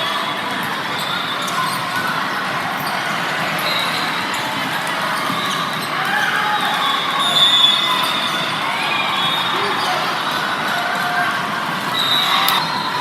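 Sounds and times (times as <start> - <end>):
chatter of many voices: 0.0 - 13.0.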